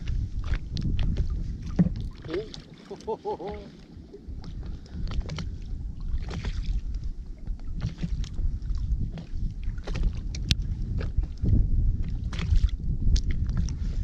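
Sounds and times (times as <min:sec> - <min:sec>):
water slapping against boat hull: 0:00.0 - 0:14.0
wind rumbling on microphone: 0:00.0 - 0:14.0.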